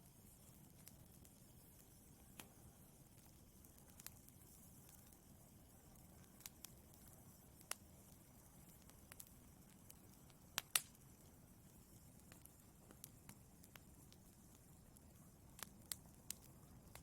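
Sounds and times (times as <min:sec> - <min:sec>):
fire pops and crackles: 0:00.0 - 0:17.0
wood fire hissing: 0:00.0 - 0:17.0.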